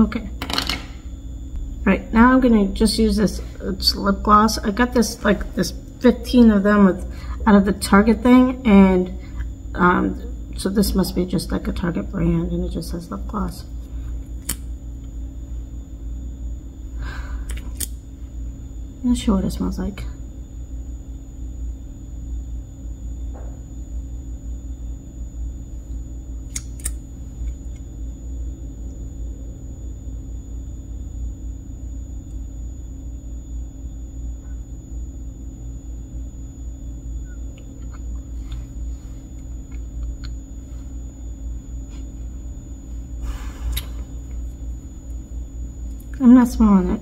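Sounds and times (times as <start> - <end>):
faint steady hum: 0.0 - 47.0
low room rumble: 0.0 - 47.0.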